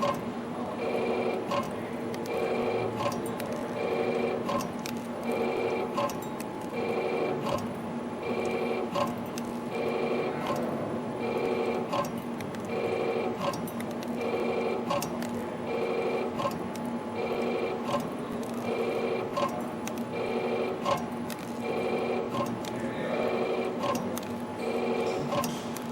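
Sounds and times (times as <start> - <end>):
constant machine hum: 0.0 - 25.9.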